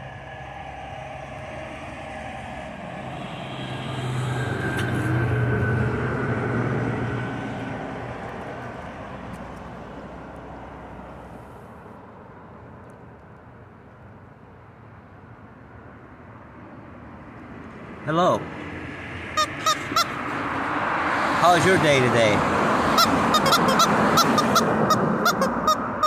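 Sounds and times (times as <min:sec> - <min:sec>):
vehicle passing by: 0:00.0 - 0:12.2, 0:17.1 - 0:26.0.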